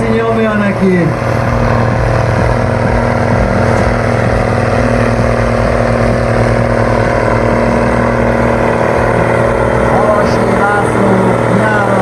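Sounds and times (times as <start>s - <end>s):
tractor diesel engine at full power: 0.0s - 12.0s.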